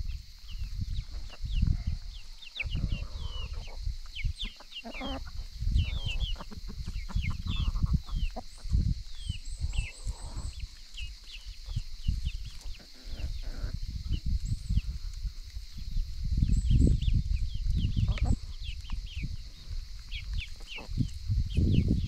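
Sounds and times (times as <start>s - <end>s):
chickens clucking: 0.0s - 15.6s, 16.8s - 22.0s.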